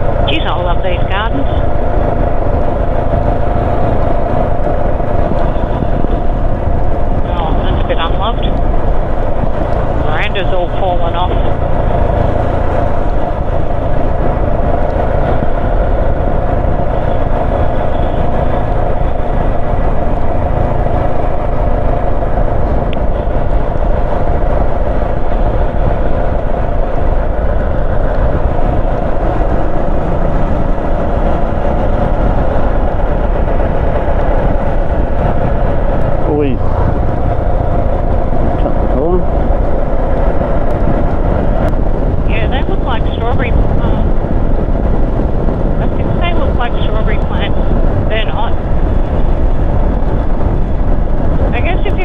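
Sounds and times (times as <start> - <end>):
heavy wind: 0.0 - 52.0
motorcycle engine running: 0.0 - 52.0
road rumble: 0.0 - 52.0.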